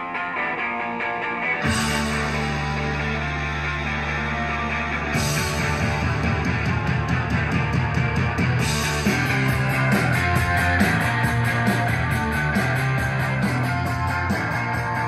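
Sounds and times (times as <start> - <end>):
rock music over speakers: 0.0 - 15.0.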